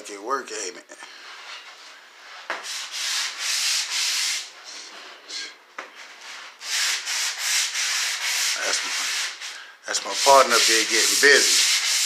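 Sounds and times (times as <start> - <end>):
hand sanding strokes: 1.4 - 12.0.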